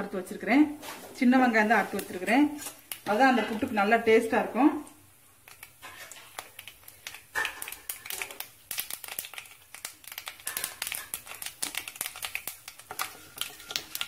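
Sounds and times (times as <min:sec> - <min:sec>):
seeds spluttering in hot oil: 0:02.0 - 0:14.0.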